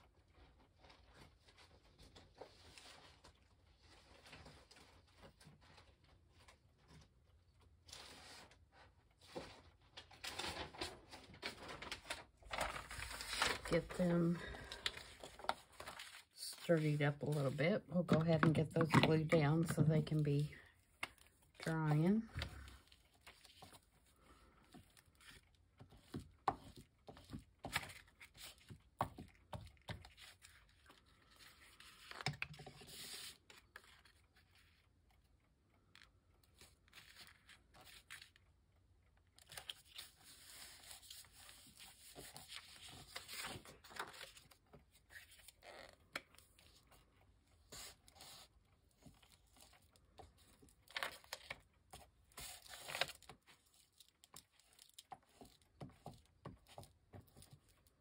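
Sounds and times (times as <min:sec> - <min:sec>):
paper rustling and scraping: 0:07.8 - 0:34.9, 0:36.6 - 0:38.4, 0:39.4 - 0:57.8.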